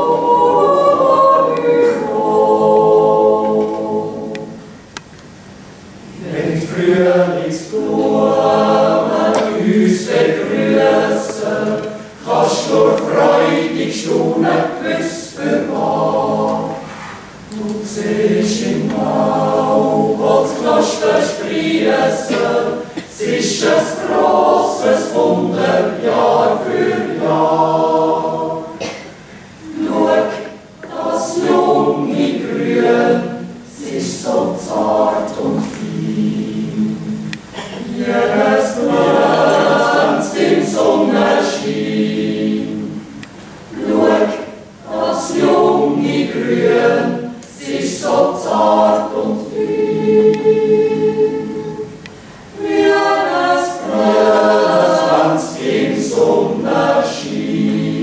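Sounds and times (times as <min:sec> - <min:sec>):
yodel choir singing a cappella: 0:00.0 - 0:58.0.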